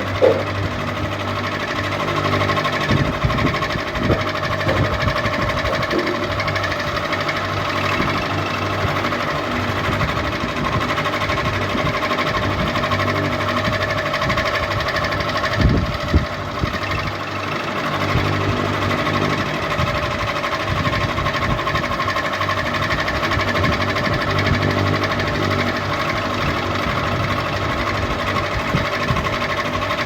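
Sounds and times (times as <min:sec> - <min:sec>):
ceiling fan whirring: 0:00.0 - 0:30.0.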